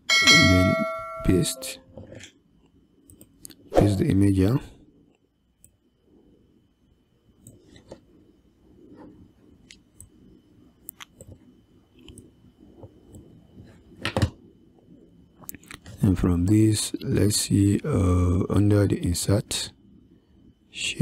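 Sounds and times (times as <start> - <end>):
faint steady high whine: 0.0 - 21.0
low room noise: 0.0 - 21.0.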